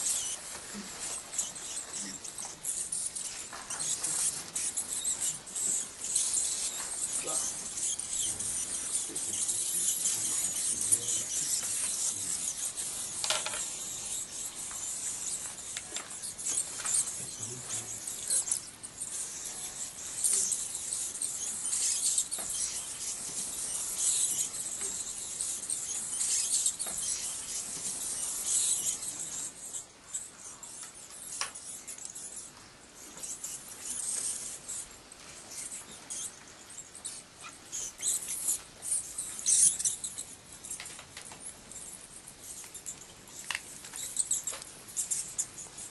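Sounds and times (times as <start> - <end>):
bats squeaking and twittering: 0.0 - 45.9.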